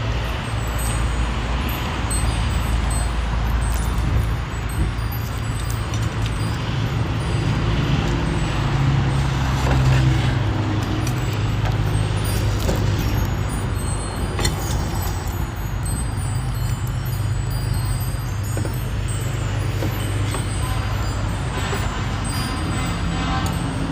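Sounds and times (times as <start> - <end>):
light clinks and tinkling: 0.0 - 23.9.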